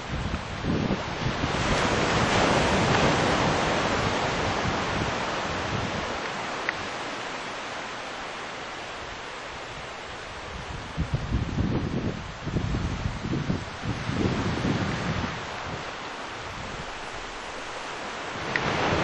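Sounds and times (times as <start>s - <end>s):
wind on microphone: 0.0s - 7.1s, 8.9s - 19.0s.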